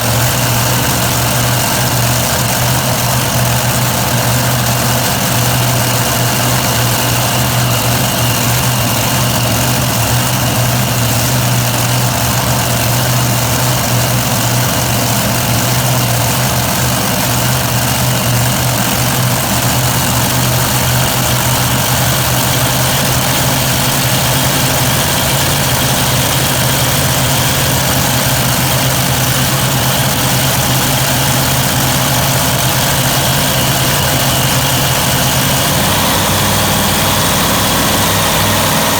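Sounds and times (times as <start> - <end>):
tractor engines idling loudly: 0.0 - 38.9.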